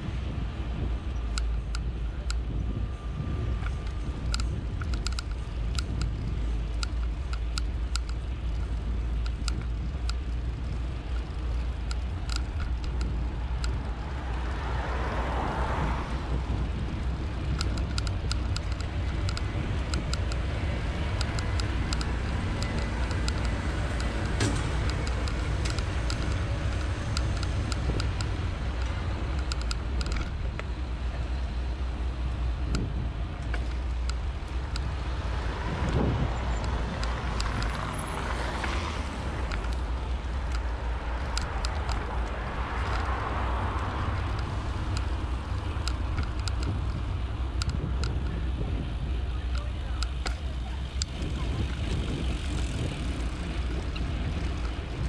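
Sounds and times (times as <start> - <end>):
passing vehicle: 0.0 - 55.0
wind and road noise rumble: 0.0 - 55.0
bicycle clicks and rattles: 0.8 - 55.0.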